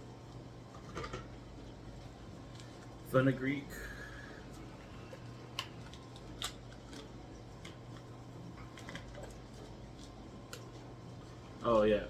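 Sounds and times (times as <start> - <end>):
dishwasher hum: 0.0 - 12.0.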